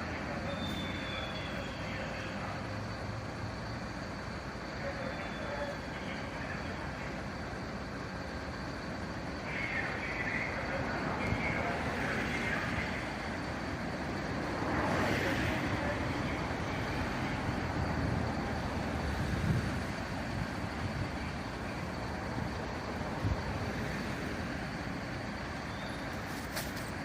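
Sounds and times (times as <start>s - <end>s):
road traffic noise: 0.0s - 27.0s
vehicle engine: 0.0s - 27.0s.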